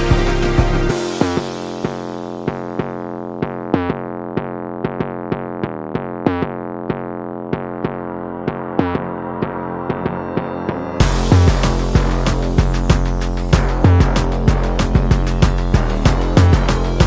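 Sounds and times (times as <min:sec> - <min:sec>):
synthesizer melody over held chords: 0:00.0 - 0:17.0.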